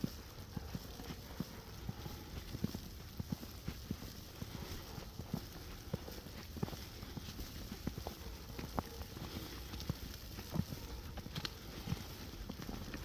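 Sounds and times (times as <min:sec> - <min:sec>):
footsteps in snow: 0:00.0 - 0:13.0.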